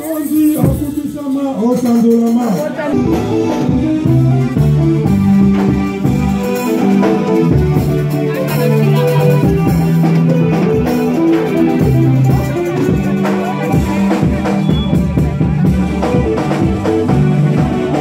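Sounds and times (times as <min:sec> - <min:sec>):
drum kit beat: 0:00.0 - 0:18.0
guitar: 0:01.6 - 0:18.0
held low notes: 0:02.9 - 0:18.0.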